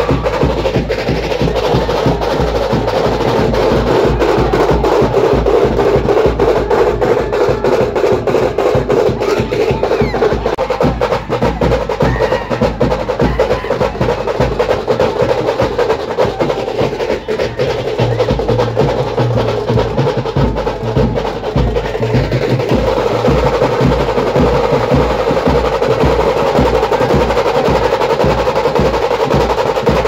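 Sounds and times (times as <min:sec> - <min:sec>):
deep bass drum beats: 0:00.0 - 0:30.0
fast stick drumming: 0:00.0 - 0:30.0.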